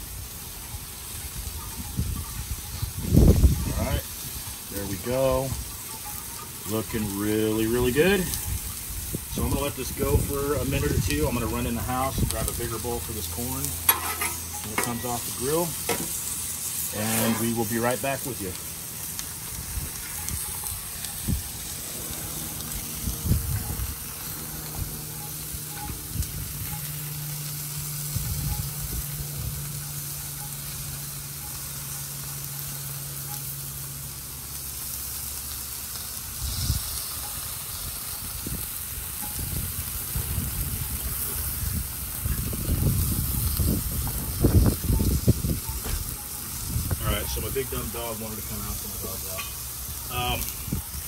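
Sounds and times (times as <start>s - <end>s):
food sizzling on a griddle: 0.0s - 51.0s.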